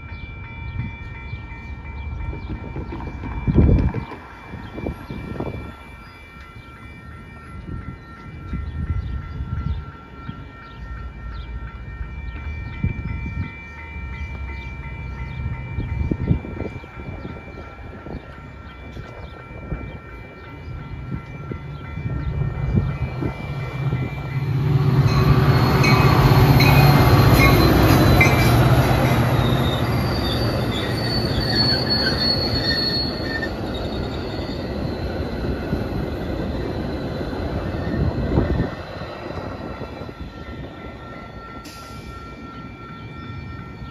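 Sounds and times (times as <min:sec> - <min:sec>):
railroad crossing bell ringing: 0:00.0 - 0:43.9
train passing and rumbling: 0:00.0 - 0:43.9.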